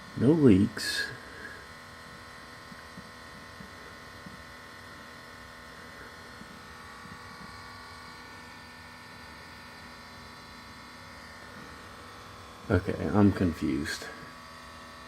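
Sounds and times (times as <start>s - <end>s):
electric fuel pump humming: 0.0s - 15.0s.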